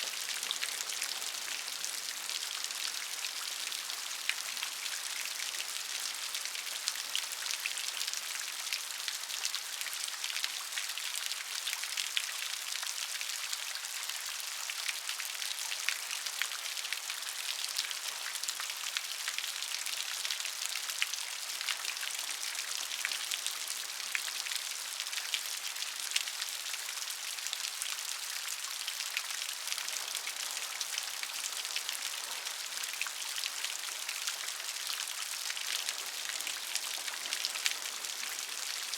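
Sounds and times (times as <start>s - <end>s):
rain falling: 0.0s - 13.0s, 15.9s - 38.9s.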